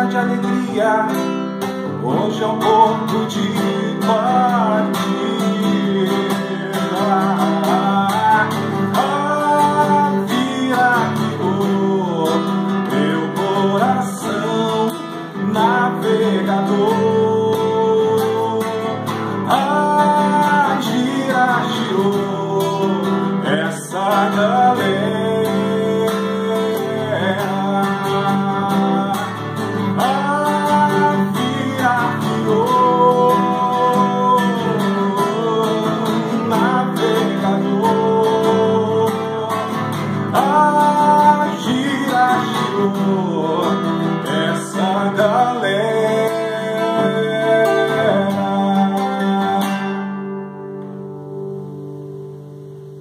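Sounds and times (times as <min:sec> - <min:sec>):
man singing: 0:00.0 - 0:51.1
strummed classical guitar: 0:00.0 - 0:53.0.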